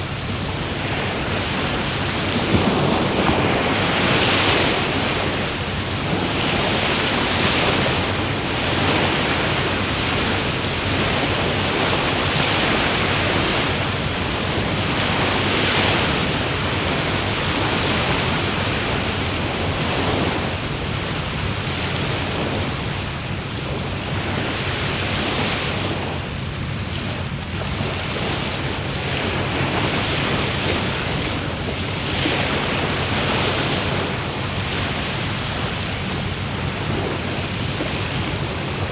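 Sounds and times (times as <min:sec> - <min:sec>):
fire crackles: 0:00.0 - 0:38.9
wood bonfire hissing: 0:00.0 - 0:38.9.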